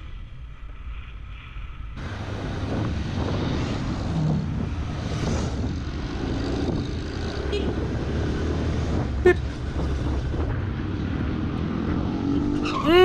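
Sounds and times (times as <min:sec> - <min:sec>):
wind rushing over microphone: 0:00.0 - 0:12.8.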